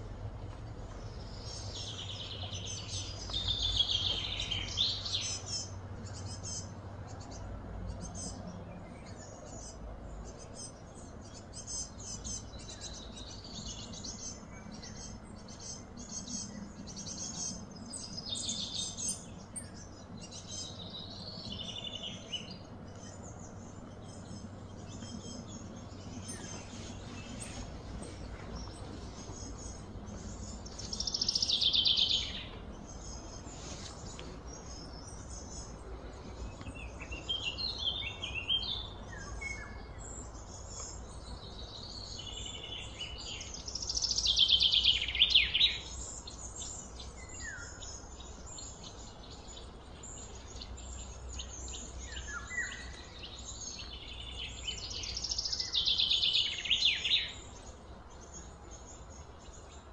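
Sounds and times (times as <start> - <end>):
birds chirping: 0.0 - 59.9
low steady hum: 0.0 - 59.9.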